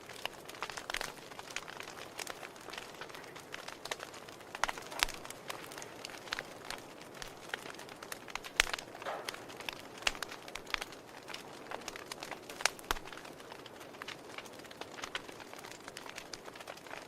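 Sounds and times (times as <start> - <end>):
logs crackling and popping: 0.0 - 17.0
low hiss of flame: 0.0 - 17.0.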